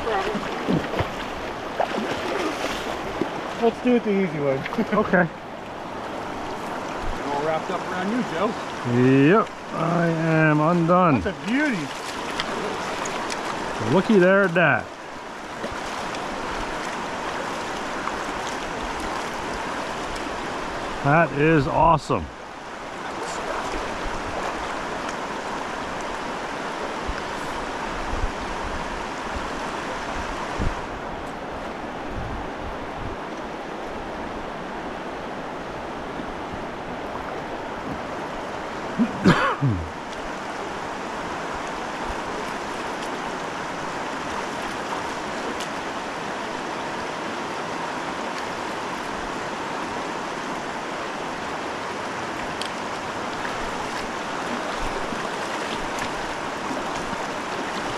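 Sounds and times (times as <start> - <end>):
river current rushing: 0.0 - 57.9.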